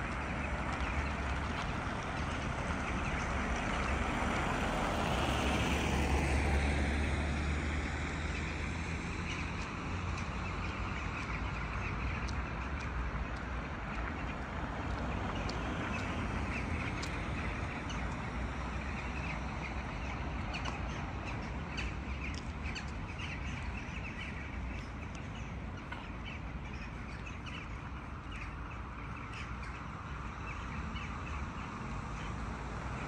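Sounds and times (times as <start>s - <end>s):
flock of birds chattering: 0.0s - 5.3s, 10.6s - 32.4s.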